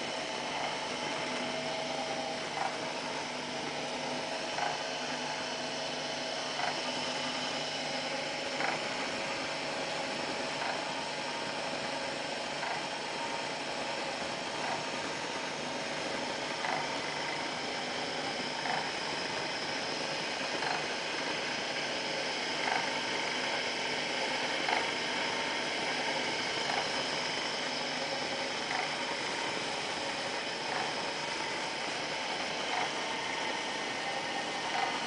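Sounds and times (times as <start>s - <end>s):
electric motor humming and whirring: 0.0s - 35.0s.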